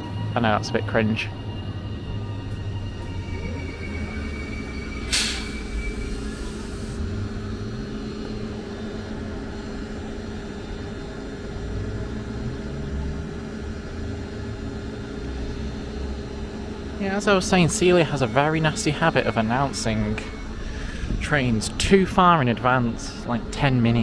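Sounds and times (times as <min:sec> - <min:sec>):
electric train humming: 0:00.0 - 0:24.0
low wavering rumble: 0:00.0 - 0:24.0.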